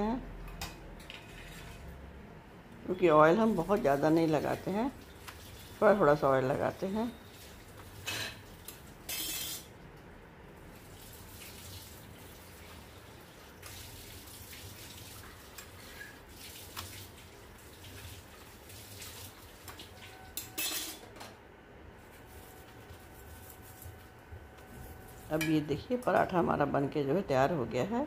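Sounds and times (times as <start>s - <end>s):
low hiss of frying: 1.3s - 21.1s, 21.8s - 27.8s.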